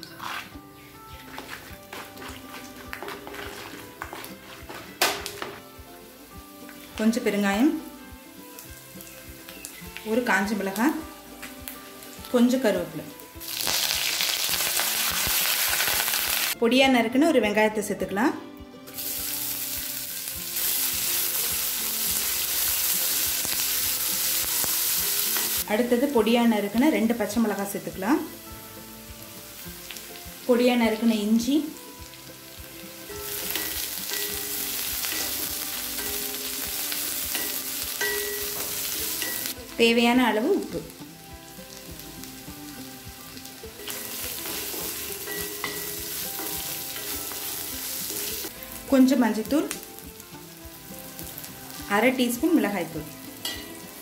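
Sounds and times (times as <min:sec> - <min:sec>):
onion sizzling in hot oil: 0:00.0 - 0:16.6, 0:18.8 - 0:54.0.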